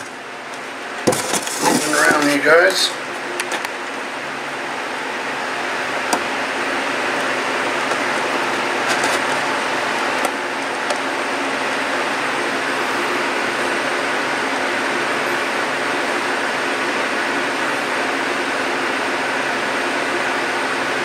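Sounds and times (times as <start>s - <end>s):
steady hum with hiss: 0.0s - 21.0s.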